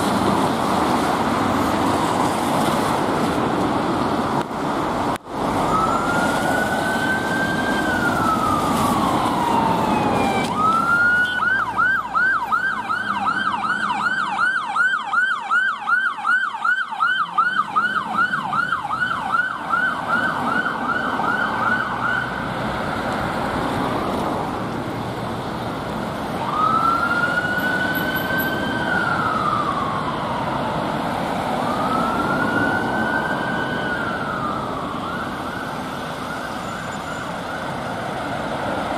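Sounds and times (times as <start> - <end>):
fire engine siren wail and yelp: 0.0 - 38.9.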